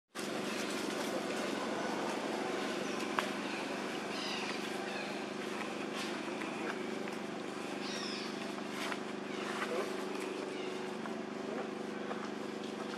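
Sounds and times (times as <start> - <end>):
low even hum: 0.2 - 12.9.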